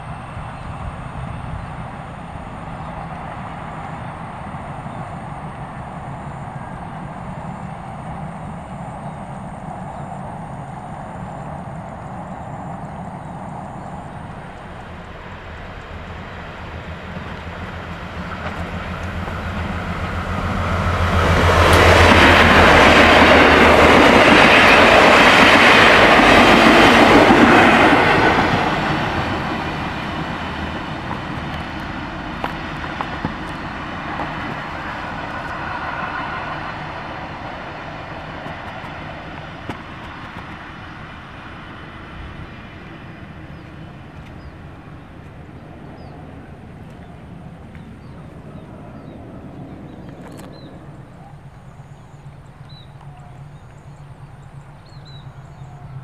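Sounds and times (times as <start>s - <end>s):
train hum: 0.0s - 56.0s
train wheels rushing on rails: 0.0s - 56.0s.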